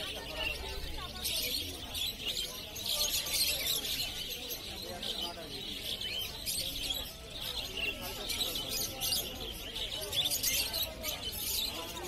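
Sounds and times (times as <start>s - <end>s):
caged birds chirping: 0.0s - 12.0s
people talking: 0.0s - 12.0s.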